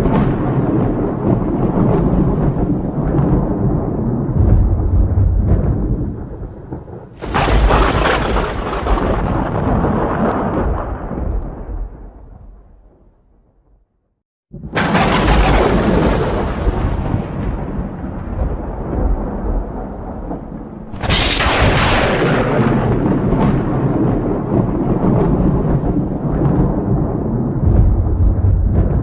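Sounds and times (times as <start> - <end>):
thunder crack and rumble: 0.0 - 13.9, 14.5 - 29.0.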